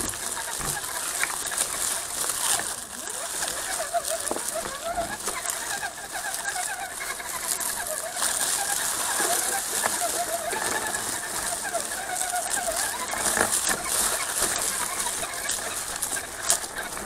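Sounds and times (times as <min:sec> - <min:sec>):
electric motor whining: 0:00.0 - 0:17.0
tyres hissing on gravel: 0:00.0 - 0:17.0.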